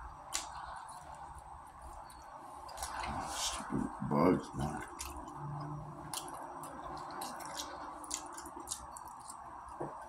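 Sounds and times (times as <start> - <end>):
room hum: 0.0 - 10.0
person chewing: 0.2 - 10.0.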